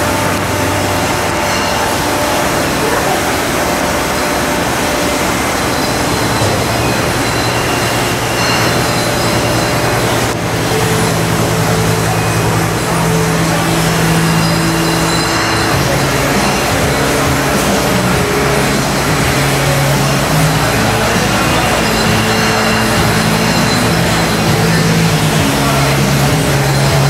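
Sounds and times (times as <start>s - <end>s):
conveyors and packaging machines running: 0.0s - 27.0s
machine hums and whines: 0.0s - 27.0s.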